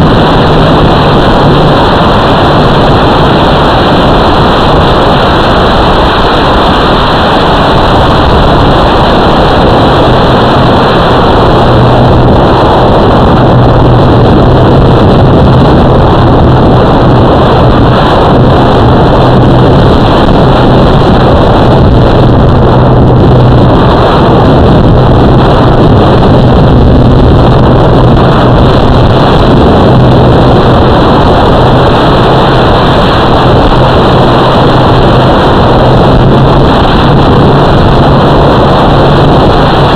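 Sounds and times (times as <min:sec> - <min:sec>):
wind rushing: 0:00.0 - 0:39.9.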